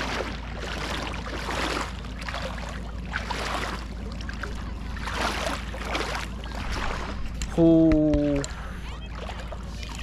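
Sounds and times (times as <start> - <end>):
feet splashing in shallow water: 0.0 - 10.0.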